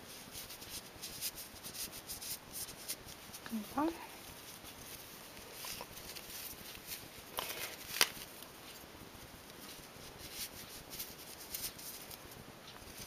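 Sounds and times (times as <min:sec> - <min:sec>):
hands rustling a knitted toy: 0:00.0 - 0:13.0.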